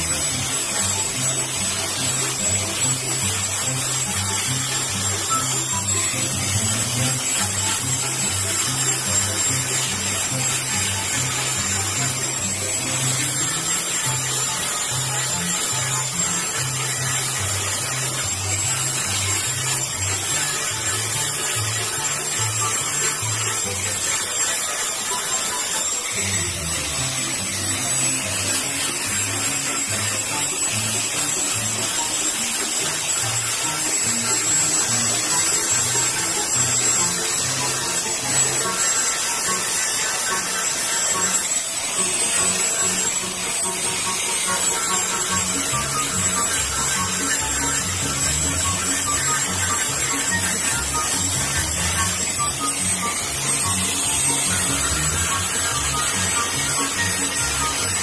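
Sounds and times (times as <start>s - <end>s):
background music with bass line: 0.0s - 24.5s, 25.6s - 58.0s
angle grinder grinding metal: 0.0s - 58.0s.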